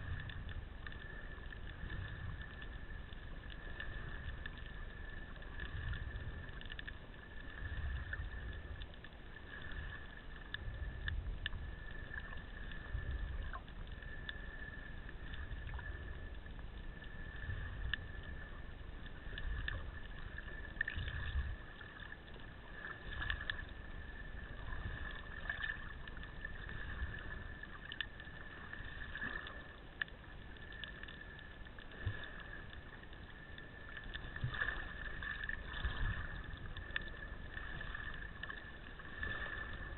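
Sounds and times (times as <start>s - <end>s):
faint clicks: 0.0s - 39.9s
low underwater rumbles: 0.0s - 39.9s.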